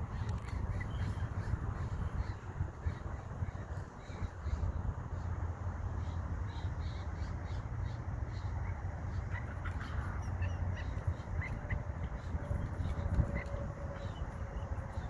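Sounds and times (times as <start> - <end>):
water birds calling: 0.0 - 15.0.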